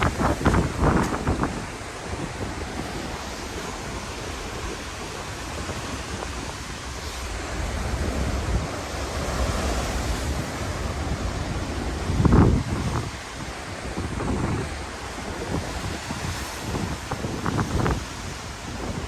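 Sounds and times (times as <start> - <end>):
surf crashing on shore: 0.0 - 19.0
wind buffeting microphone: 0.0 - 19.0.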